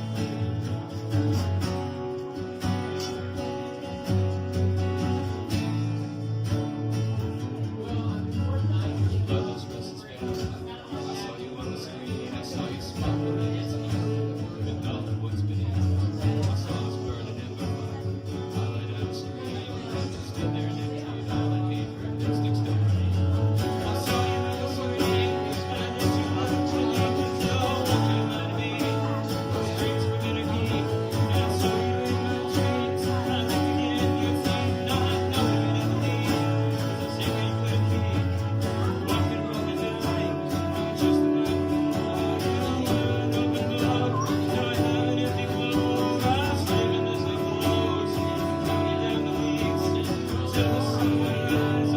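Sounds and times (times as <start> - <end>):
acoustic guitar music: 0.0 - 51.9.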